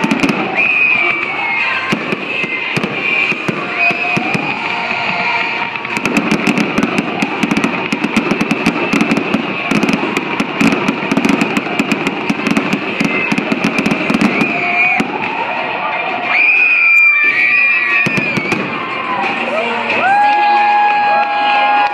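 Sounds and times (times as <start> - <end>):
fireworks crackling: 0.0 - 16.4, 17.3 - 19.6.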